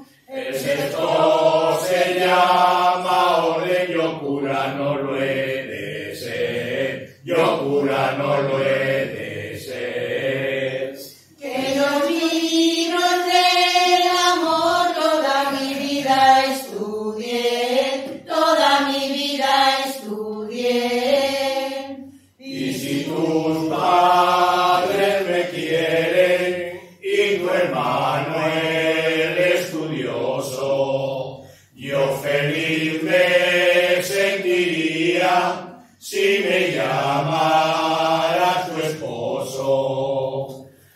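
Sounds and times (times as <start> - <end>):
choir singing: 0.0 - 40.8.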